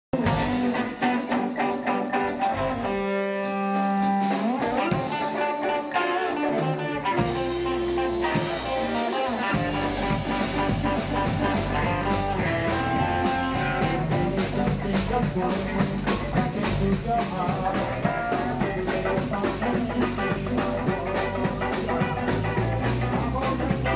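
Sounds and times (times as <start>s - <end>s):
bass and drums: 0.1s - 23.9s
electric guitars playing blues-rock: 0.1s - 23.9s.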